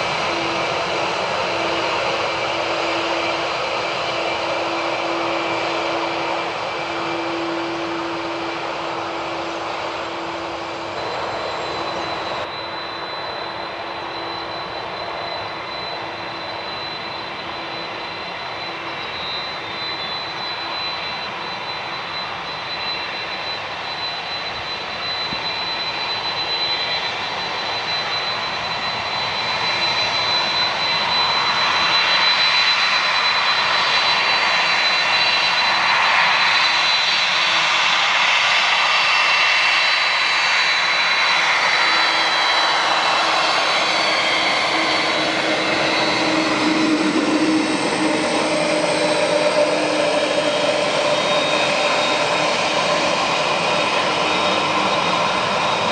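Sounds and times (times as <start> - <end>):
high jet whine: 0.0 - 55.9
jet engine roar: 0.0 - 55.9.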